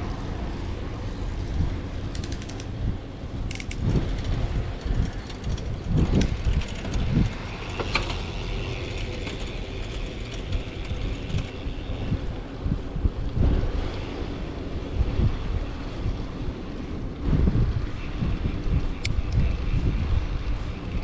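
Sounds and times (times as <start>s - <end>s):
bicycle clicks: 0.0s - 21.0s
bicycle rolling with rattles: 0.0s - 21.0s.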